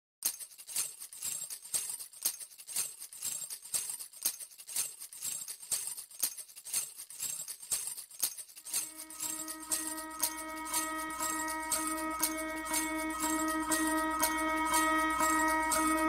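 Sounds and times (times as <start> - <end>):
jingling hand percussion: 0.2 - 16.0.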